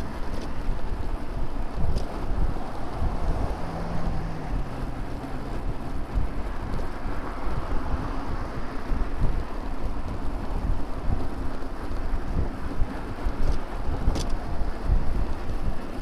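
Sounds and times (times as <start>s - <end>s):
passing vehicle engine hum: 0.0s - 16.0s
road traffic: 0.0s - 16.0s
wind on microphone: 0.0s - 16.0s.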